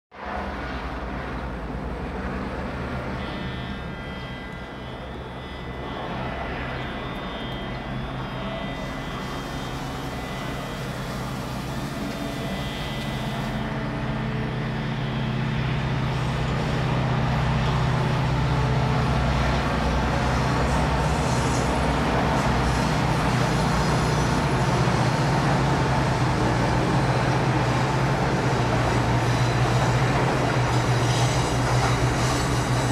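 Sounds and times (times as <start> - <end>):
train rumbling past: 0.2 - 32.9.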